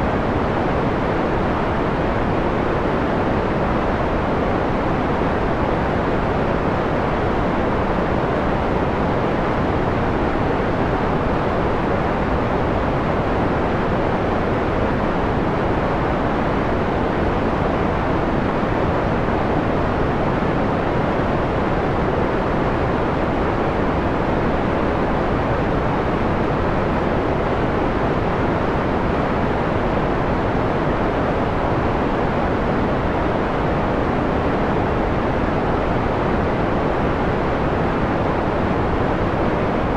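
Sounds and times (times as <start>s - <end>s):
muffled white noise hiss: 0.0s - 39.9s.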